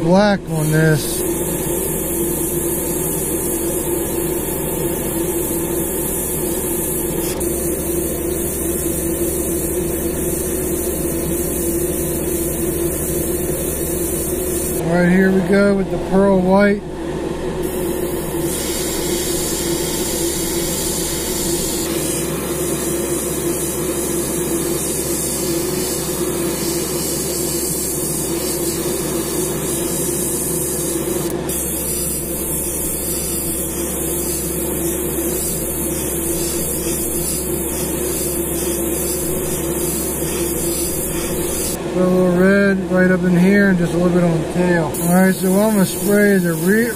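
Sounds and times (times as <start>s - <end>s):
airbrush hissing: 0.5s - 14.8s, 17.6s - 41.8s, 44.9s - 46.9s.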